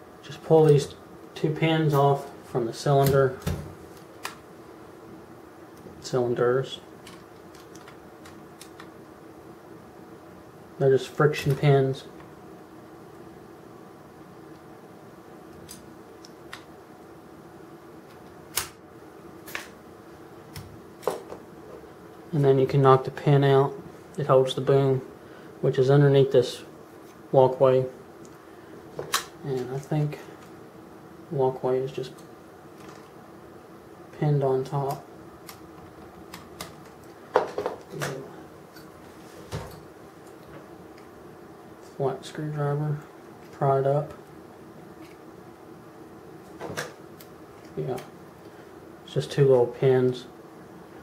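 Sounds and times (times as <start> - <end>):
low room hum: 0.0 - 51.0.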